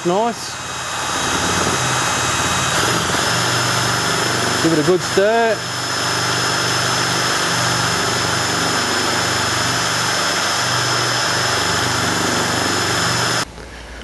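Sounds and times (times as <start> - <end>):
cordless drill whining: 0.0 - 13.4.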